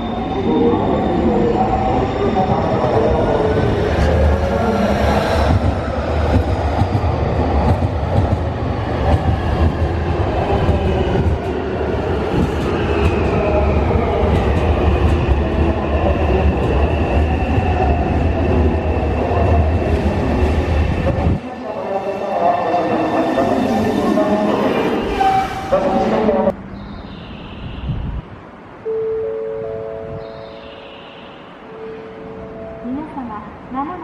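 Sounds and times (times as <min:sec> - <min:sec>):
train wheels rumbling: 0:00.0 - 0:28.4.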